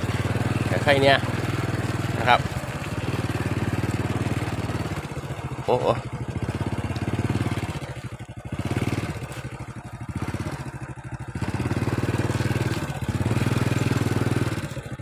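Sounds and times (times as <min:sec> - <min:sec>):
small motorcycle engine: 0:00.0 - 0:15.0.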